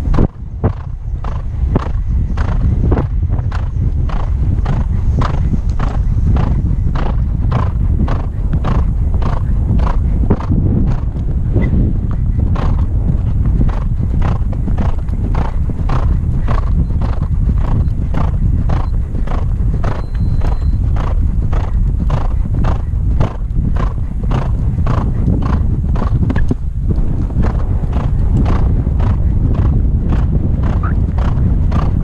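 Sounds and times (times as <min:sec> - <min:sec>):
horse hoofbeats on turf: 0:00.0 - 0:32.0
wind rumble on microphone: 0:00.0 - 0:32.0.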